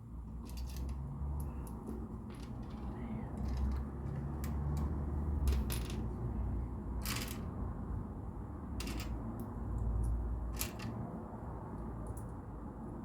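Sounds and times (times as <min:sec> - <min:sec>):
low rumble of handling noise: 0:00.0 - 0:12.3.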